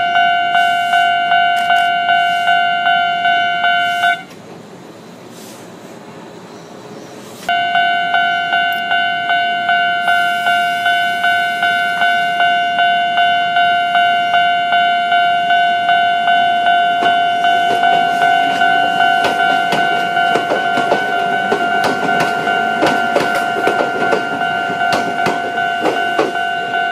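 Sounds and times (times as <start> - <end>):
level-crossing warning bell: 0.0 - 4.3, 7.5 - 26.9
train rumbling on track: 0.0 - 26.9.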